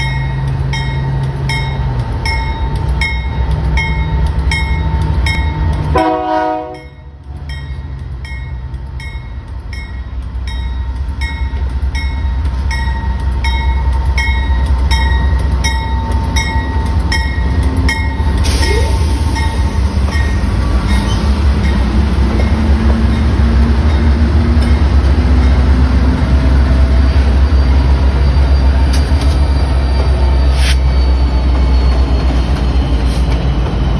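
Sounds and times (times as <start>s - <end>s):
locomotive bell ringing: 0.0s - 33.1s
diesel locomotives rumbling: 0.0s - 33.9s.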